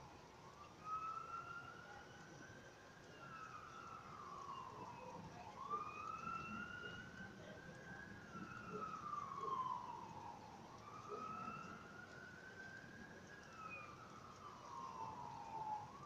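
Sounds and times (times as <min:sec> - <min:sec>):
faint wailing siren: 0:00.0 - 0:16.0.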